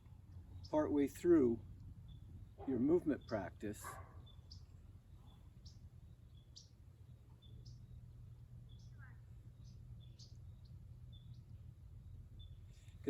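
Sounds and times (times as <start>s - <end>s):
low background rumble: 0.0s - 13.0s
bird chirping: 0.2s - 13.0s.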